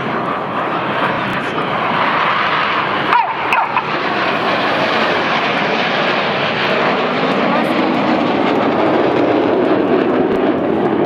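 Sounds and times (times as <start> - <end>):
jet engine roar: 0.0 - 11.0
jet whine falling in pitch: 0.0 - 11.0.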